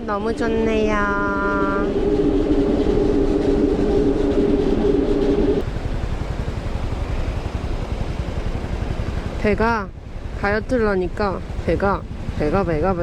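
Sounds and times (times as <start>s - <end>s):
motorcycle engine running: 0.0s - 13.0s
road rumble: 0.0s - 13.0s
wind rumble on microphone: 0.0s - 13.0s.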